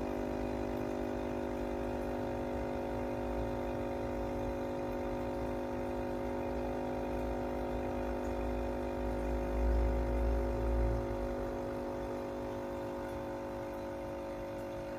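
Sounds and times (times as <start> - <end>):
aquarium equipment hum: 0.0 - 14.9.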